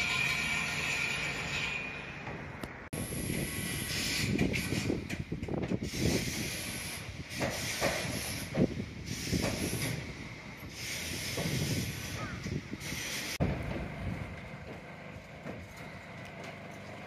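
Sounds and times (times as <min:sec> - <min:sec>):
steady outdoor hiss: 0:02.6 - 0:17.0.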